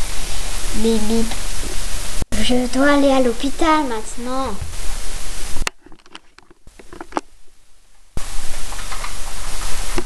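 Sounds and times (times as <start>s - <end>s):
microphone hiss: 0.0s - 10.0s.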